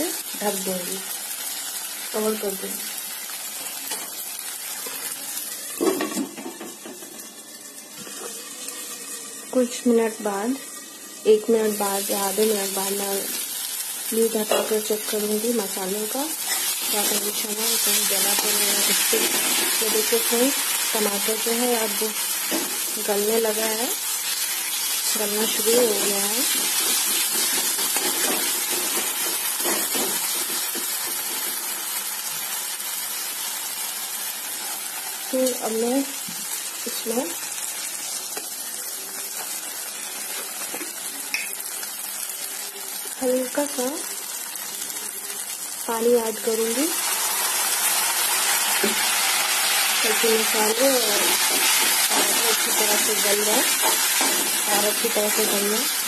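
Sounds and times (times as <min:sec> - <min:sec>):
masala sizzling in oil: 0:00.0 - 0:56.0.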